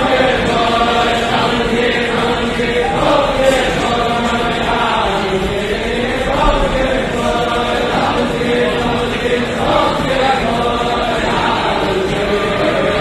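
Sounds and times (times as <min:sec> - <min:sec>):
choir chanting: 0:00.0 - 0:13.0.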